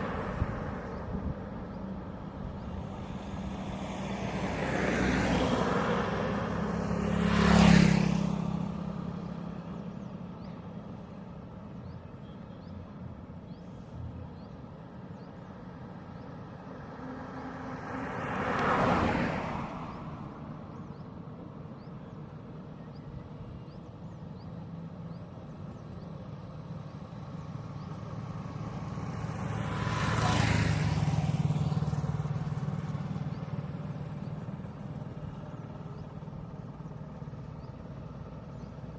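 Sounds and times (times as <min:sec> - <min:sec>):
low engine hum: 0:00.0 - 0:38.9
vehicles passing on highway: 0:00.0 - 0:38.9.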